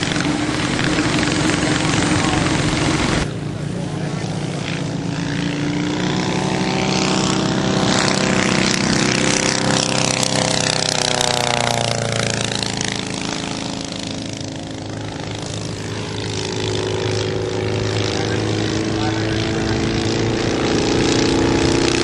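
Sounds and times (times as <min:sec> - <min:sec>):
light airplane engine droning: 0:00.0 - 0:22.0.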